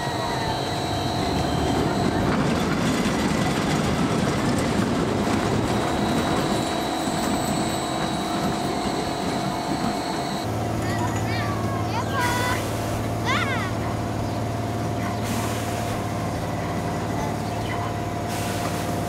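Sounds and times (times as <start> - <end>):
roller coaster wheels on rail: 0.0 - 19.0.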